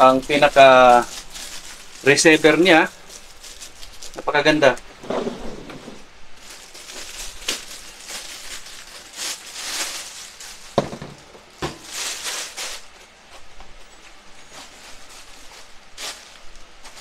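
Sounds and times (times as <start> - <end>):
plastic bag crinkling: 0.0 - 5.0, 6.0 - 17.0.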